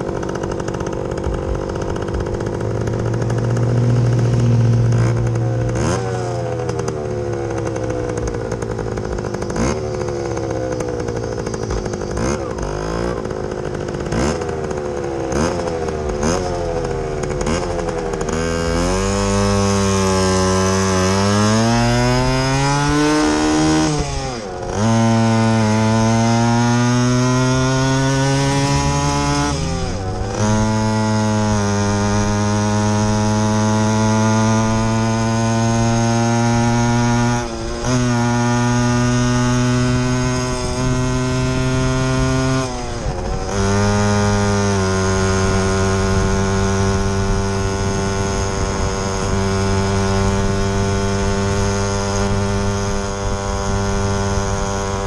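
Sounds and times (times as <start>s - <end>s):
two-stroke motorcycle engine: 0.0s - 55.0s.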